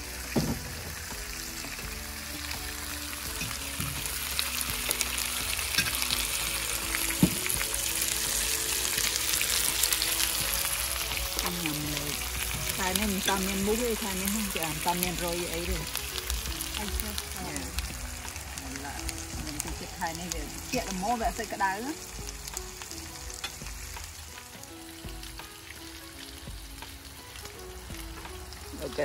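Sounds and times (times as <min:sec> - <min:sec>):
meat sizzling on grill pan: 0:00.0 - 0:29.0.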